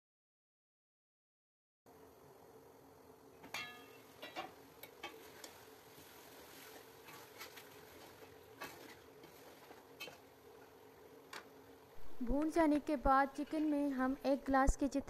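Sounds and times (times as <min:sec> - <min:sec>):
faint sizzle: 0:01.9 - 0:15.0.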